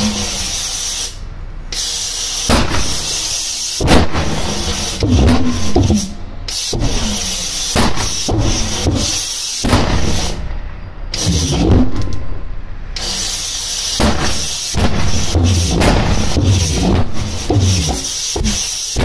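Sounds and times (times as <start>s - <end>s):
pulsejet engine sputtering bursts: 0.0s - 10.4s, 11.1s - 12.2s, 12.9s - 19.0s
hiss of starting air: 0.0s - 10.5s, 11.1s - 11.7s, 13.0s - 19.0s.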